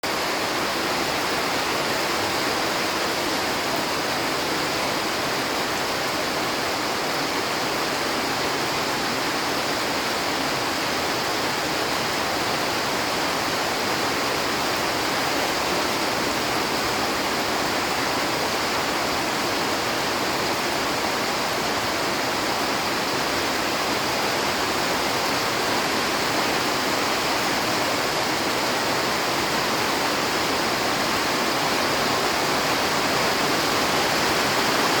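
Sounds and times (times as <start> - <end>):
rain pouring down: 0.0 - 35.0.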